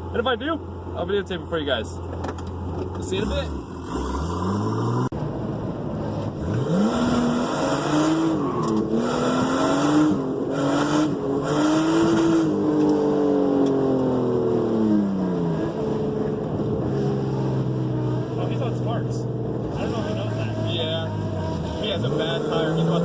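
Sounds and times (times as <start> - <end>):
car engine revving: 2.4 - 23.0.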